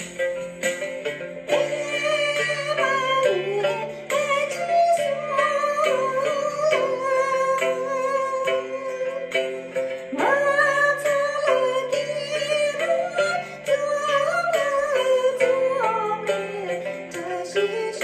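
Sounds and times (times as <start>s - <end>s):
recorded accompaniment with steady beat: 0.0s - 18.0s
woman singing into a microphone: 1.5s - 18.0s.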